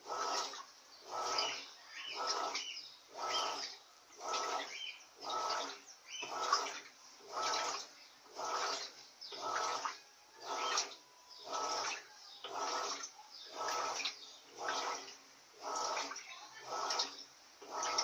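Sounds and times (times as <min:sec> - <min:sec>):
washing machine sloshing: 0:00.0 - 0:18.0.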